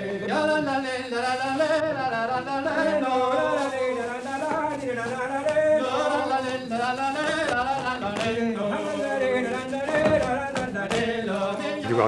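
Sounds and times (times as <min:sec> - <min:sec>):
person singing: 0:00.0 - 0:12.0.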